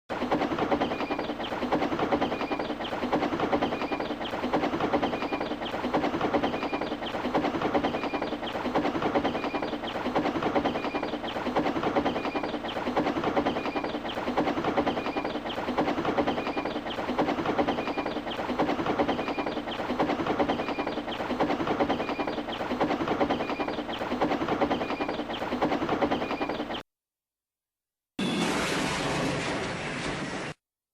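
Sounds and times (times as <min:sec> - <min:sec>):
steam locomotive chuffing: 0:00.1 - 0:26.8.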